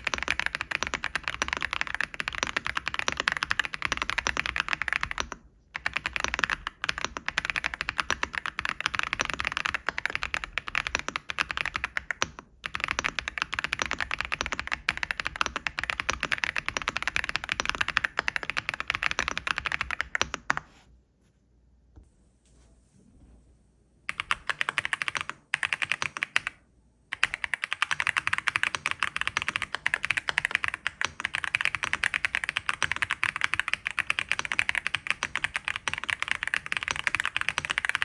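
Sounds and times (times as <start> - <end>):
clacky keyboard typing: 0.0 - 20.6, 24.1 - 38.0.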